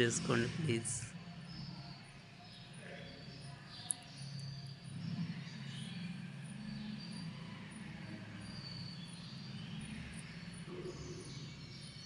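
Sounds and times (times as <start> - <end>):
faint uneven low rumble: 0.0 - 12.0.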